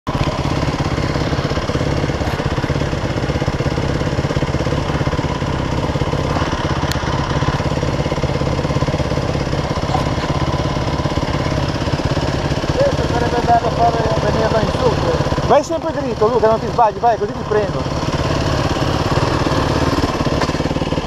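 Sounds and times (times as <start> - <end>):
dirt bike engine idling: 0.1 - 21.0.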